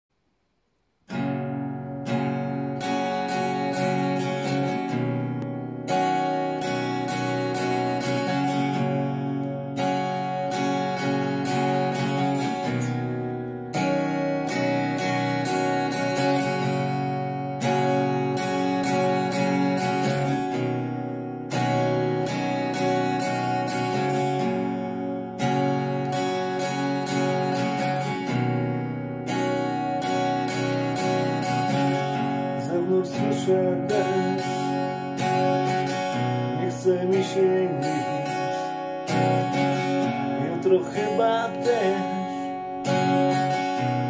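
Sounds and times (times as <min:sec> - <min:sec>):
solo acoustic guitar: 0:00.4 - 0:44.0.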